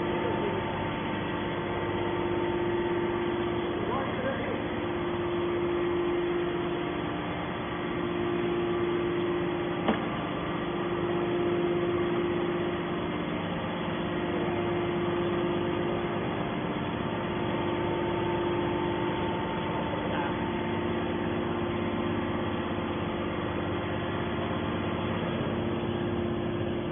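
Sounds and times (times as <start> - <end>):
machine engine humming: 0.0 - 26.9.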